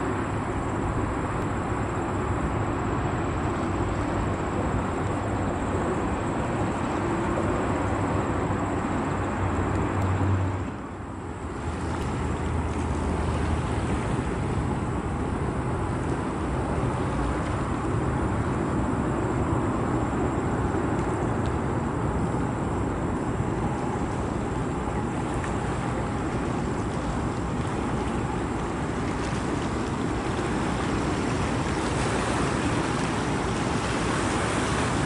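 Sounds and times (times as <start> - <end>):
wind noise on microphone: 0.0 - 35.0.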